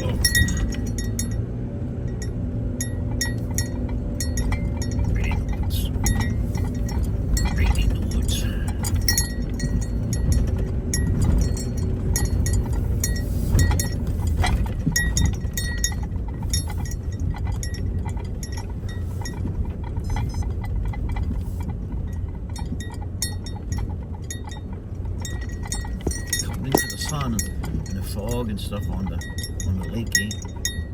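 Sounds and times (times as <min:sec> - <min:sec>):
vehicle rumble inside cabin: 0:00.0 - 0:30.9.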